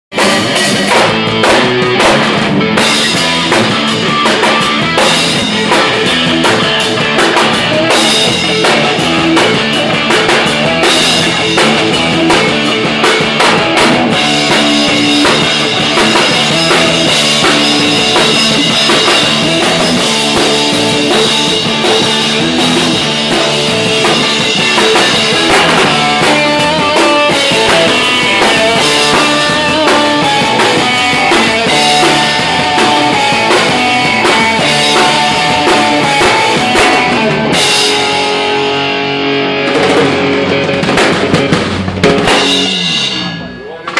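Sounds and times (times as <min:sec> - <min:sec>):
guitar: 0:00.0 - 0:43.9
rock music: 0:00.0 - 0:43.9
drum kit: 0:00.1 - 0:43.9.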